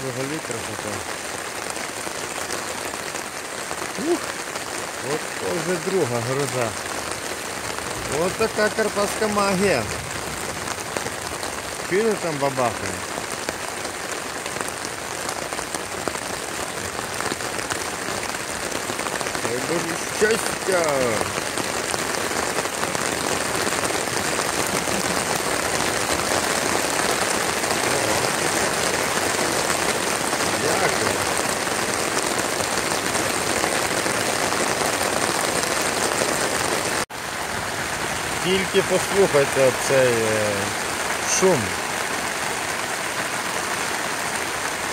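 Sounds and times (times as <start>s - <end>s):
rain drumming on a tent: 0.0s - 44.9s.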